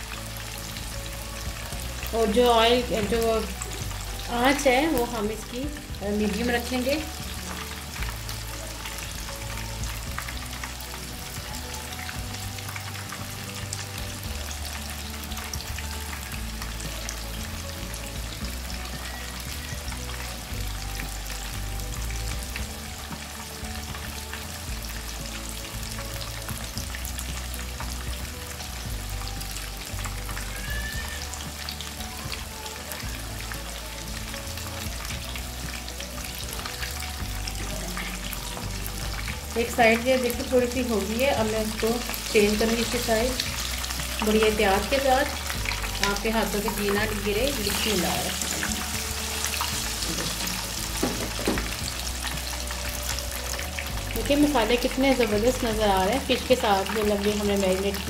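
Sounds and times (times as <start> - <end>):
fish sizzling in hot oil: 0.0 - 58.0
low background music: 0.0 - 58.0.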